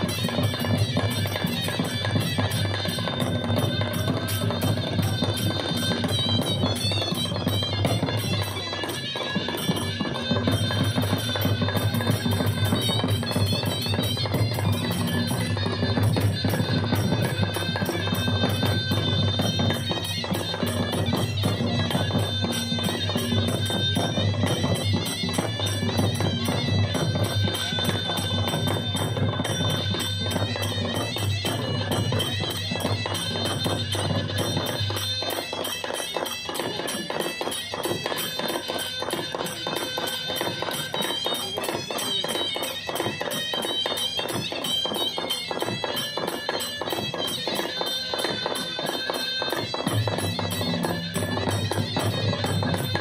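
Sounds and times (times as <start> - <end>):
drums beaten in dense rhythm: 0.0 - 53.0
shrill reed pipe melody: 0.0 - 53.0.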